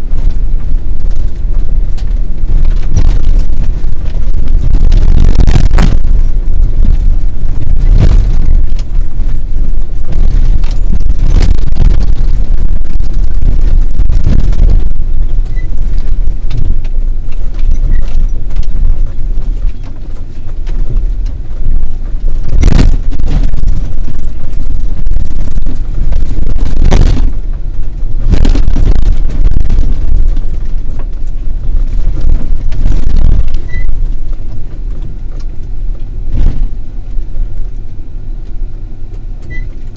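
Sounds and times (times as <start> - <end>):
off-road vehicle rumbling: 0.0 - 39.9.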